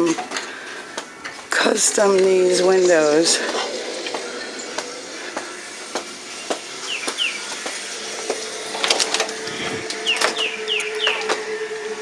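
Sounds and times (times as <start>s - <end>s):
birds chirping: 0.0s - 12.0s
steady hum: 0.4s - 12.0s.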